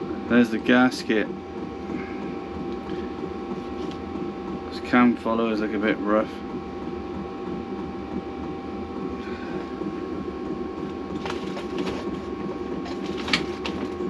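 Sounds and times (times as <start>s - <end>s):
workshop hum: 0.0s - 14.0s.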